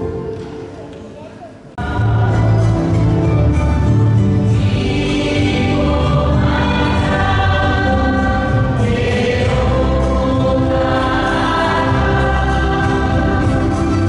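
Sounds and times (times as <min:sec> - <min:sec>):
choir singing a hymn: 0:01.8 - 0:03.6, 0:04.2 - 0:14.0.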